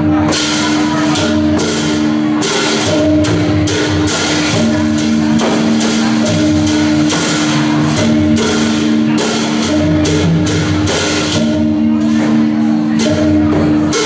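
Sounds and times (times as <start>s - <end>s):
cymbals clashing: 0.0s - 14.0s
drum beating steadily: 0.0s - 14.0s.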